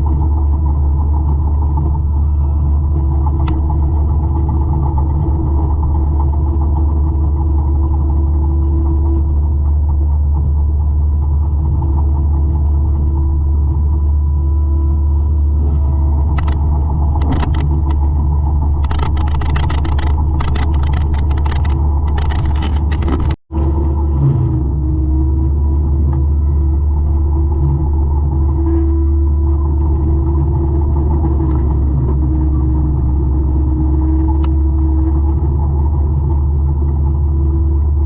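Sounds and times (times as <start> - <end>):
forestry mulcher droning: 0.0 - 38.0.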